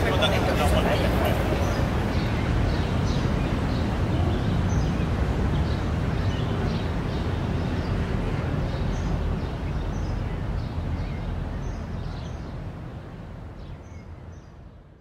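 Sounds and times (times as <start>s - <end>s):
distant traffic rumble: 0.0s - 15.0s
small birds chirping: 0.0s - 15.0s.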